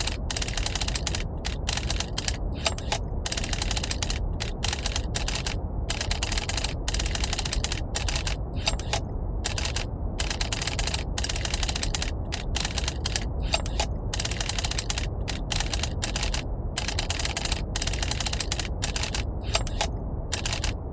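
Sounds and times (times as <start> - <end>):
typewriter keys clattering: 0.0 - 20.7
low rumble of brown noise: 0.0 - 20.9.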